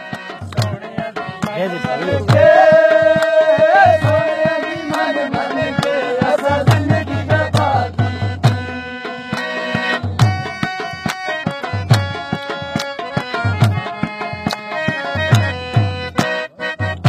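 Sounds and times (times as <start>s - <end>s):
hand drum beating: 0.0s - 16.4s
harmonium: 0.0s - 17.0s.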